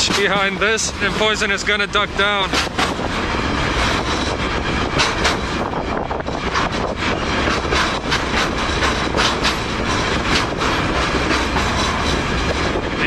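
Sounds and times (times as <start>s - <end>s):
train rumble and rattle: 0.0s - 13.0s
wheels and couplings clanking: 0.0s - 13.0s.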